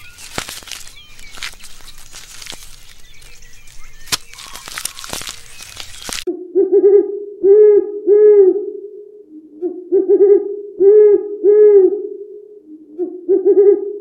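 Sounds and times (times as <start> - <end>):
owl hooting: 0.0 - 14.0.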